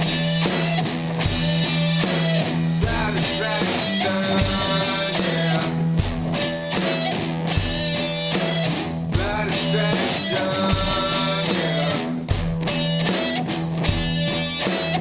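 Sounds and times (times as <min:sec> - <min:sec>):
drum kit beat: 0:00.0 - 0:15.0
electric guitar: 0:00.0 - 0:15.0
rock music: 0:00.0 - 0:15.0.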